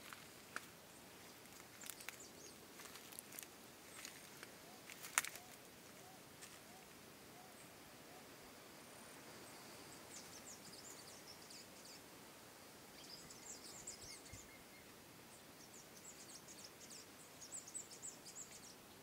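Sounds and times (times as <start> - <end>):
small birds chirping: 0.0 - 8.4, 9.3 - 12.2, 12.8 - 19.0
soft outdoor hiss: 0.0 - 19.0.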